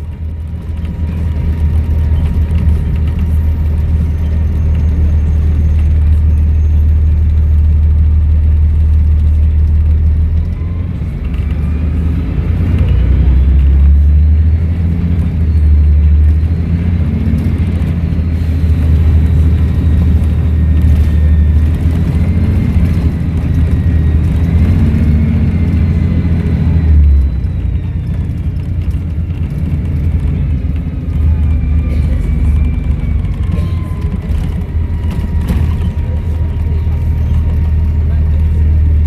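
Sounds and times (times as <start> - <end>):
bus diesel engine rumbling: 0.0 - 39.0.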